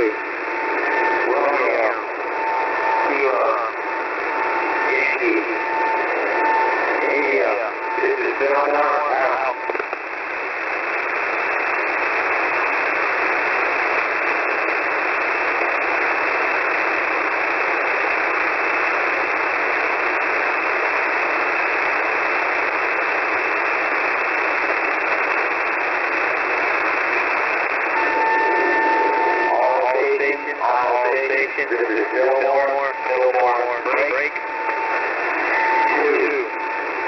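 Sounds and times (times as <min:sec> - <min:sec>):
radio static hiss: 0:00.0 - 0:37.0
steady tone: 0:00.0 - 0:37.0.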